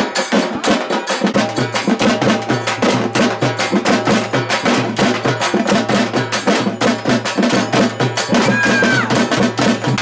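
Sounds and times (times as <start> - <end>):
fast steady drumming: 0.0 - 10.0.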